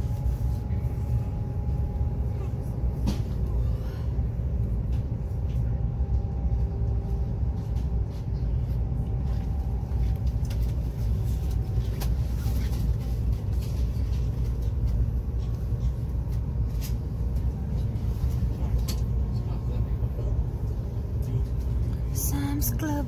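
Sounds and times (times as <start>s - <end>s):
train cabin low rumble: 0.0s - 23.0s.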